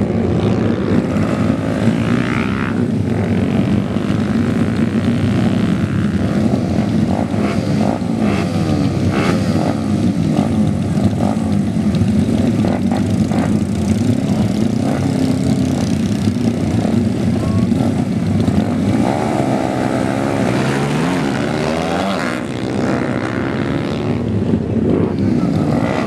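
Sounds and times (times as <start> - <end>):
engine crackles: 0.0 - 26.0
motorcycle engines revving hard: 0.0 - 26.0.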